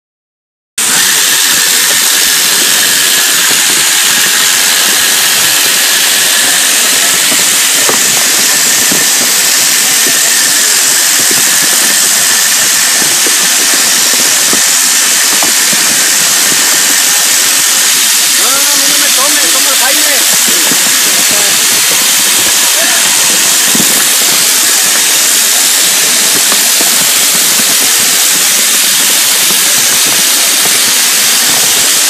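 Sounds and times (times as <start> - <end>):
electric sheep shears running: 0.8 - 32.0.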